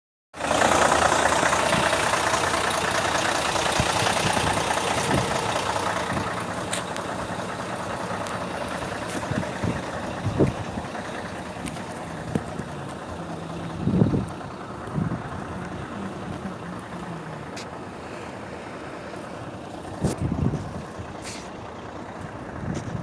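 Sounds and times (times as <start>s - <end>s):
heavy truck engine running: 0.4s - 23.0s.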